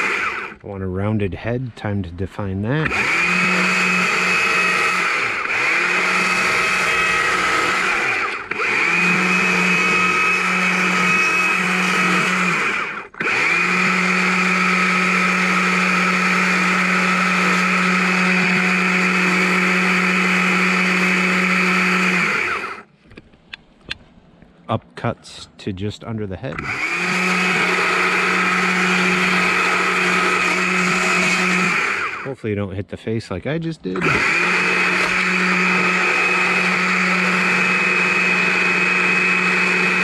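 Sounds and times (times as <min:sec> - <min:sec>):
chainsaw cutting wood: 0:00.0 - 0:00.6, 0:02.9 - 0:22.8, 0:26.6 - 0:32.3, 0:34.0 - 0:40.0.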